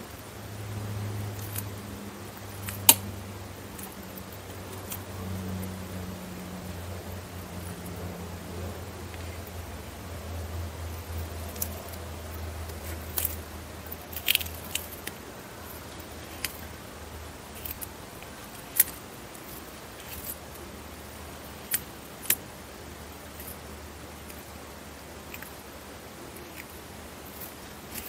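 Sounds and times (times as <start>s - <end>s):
tortoise crunching leaves: 0.1s - 28.0s.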